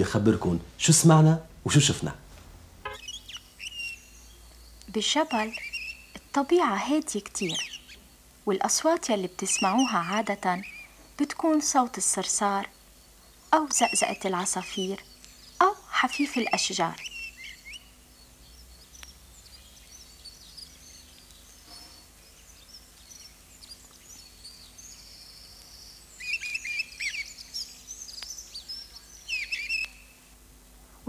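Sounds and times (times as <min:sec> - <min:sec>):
songbirds chirping: 0:00.0 - 0:30.8.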